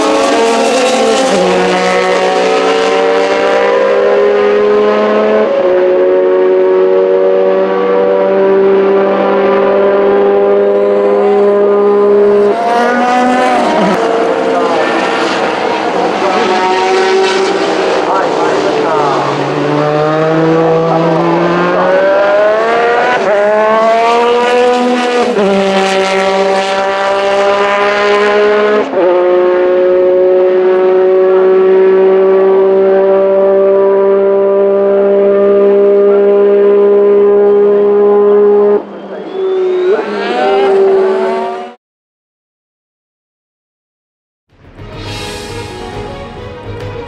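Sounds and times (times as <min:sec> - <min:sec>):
race car engine accelerating: 0:00.0 - 0:41.8.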